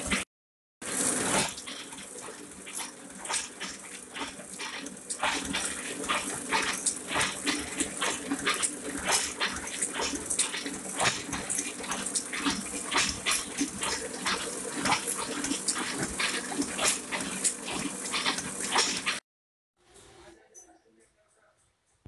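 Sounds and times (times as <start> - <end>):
printing press clattering: 1.1 - 19.2.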